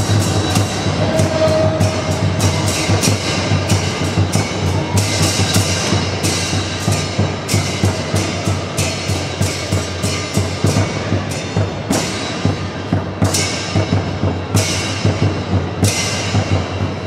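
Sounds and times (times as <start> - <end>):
cymbals clashing: 0.0 - 17.0
large drum beating: 0.0 - 17.0.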